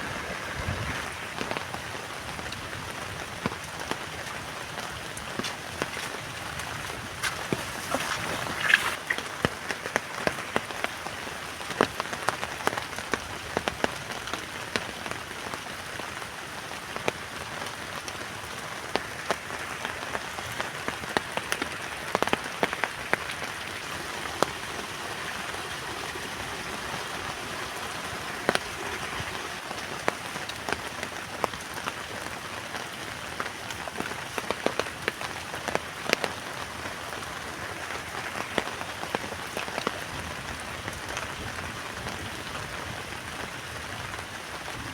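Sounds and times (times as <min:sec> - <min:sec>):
heavy rain on a tent: 0:00.0 - 0:44.9.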